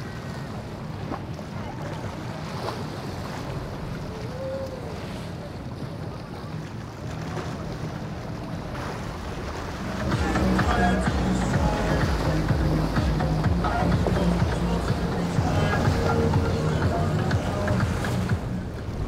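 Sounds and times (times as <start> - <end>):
motorboat engine running: 0.0 - 19.0
wake and spray rushing: 0.0 - 19.0.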